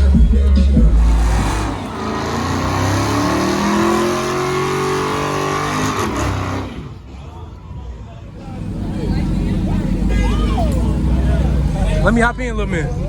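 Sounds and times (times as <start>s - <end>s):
car engine accelerating: 0.0s - 7.4s, 8.3s - 13.0s
heavy deep rumble: 0.0s - 13.0s.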